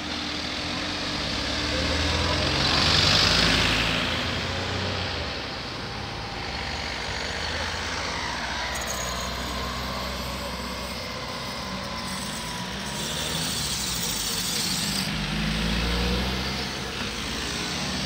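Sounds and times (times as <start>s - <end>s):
van engines humming: 0.0s - 18.0s.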